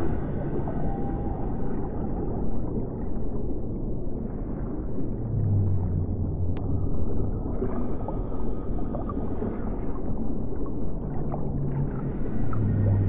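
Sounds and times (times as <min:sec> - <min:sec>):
low steady hum: 0:00.0 - 0:13.0
water churning and rumbling: 0:00.0 - 0:13.0.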